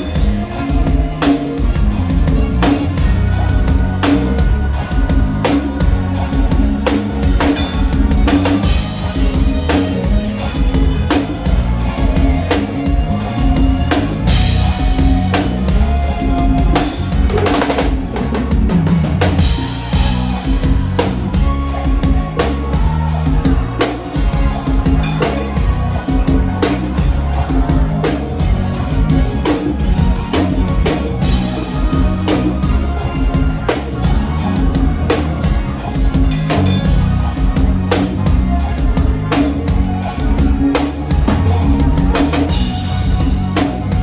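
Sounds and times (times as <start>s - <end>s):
drum kit: 0.0s - 44.0s
keyboard playing: 0.0s - 44.0s
live band through stage speakers: 0.0s - 44.0s.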